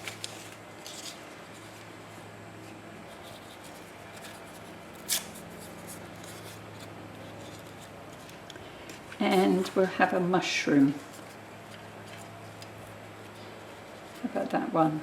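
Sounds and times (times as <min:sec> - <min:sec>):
paper rustling: 0:00.0 - 0:02.0, 0:02.6 - 0:14.5
low steady hum: 0:00.0 - 0:15.0.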